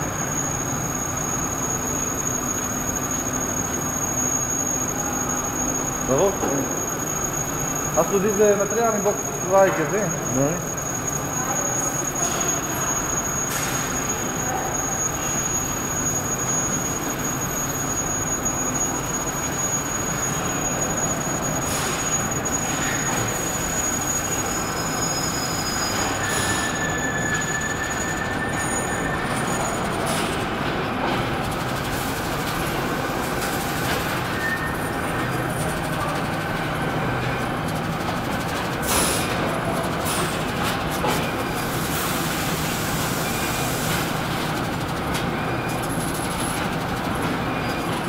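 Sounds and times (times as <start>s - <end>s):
high-pitched machine whine: 0.0s - 48.0s.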